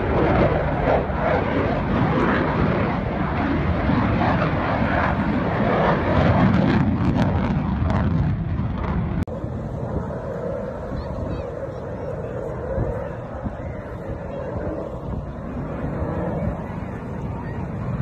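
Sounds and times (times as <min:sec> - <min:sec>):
jet engine noise: 0:00.0 - 0:18.0.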